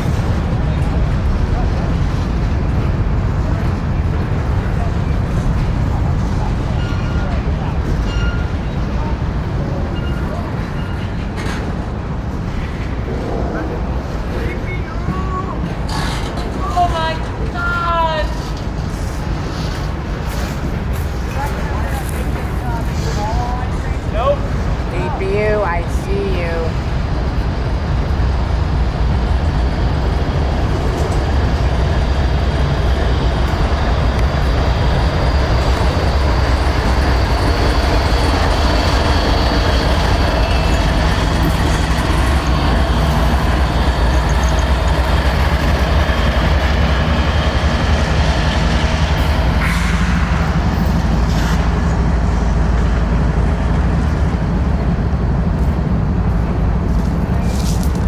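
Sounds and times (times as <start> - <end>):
train rumbling past on rails: 0.0 - 58.0.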